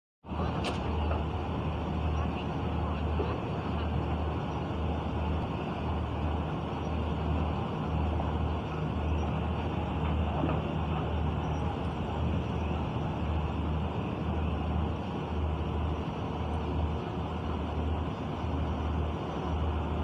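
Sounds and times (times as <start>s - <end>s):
throbbing diesel engine drone: 0.2s - 20.0s
machinery noise: 0.3s - 20.0s.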